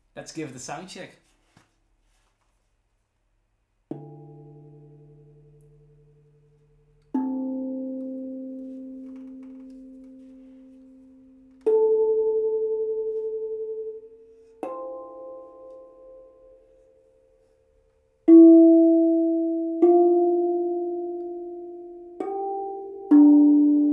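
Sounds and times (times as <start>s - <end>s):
steel tongue drum notes ringing: 3.9s - 23.9s.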